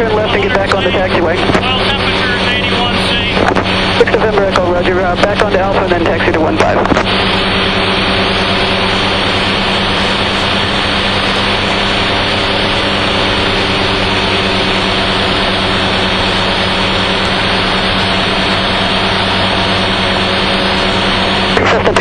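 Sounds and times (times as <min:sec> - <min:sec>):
aircraft engine and propeller drone: 0:00.0 - 0:22.0.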